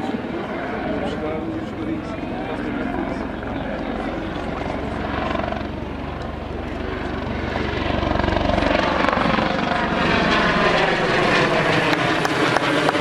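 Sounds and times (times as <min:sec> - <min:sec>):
helicopter flying by: 0:00.0 - 0:13.0.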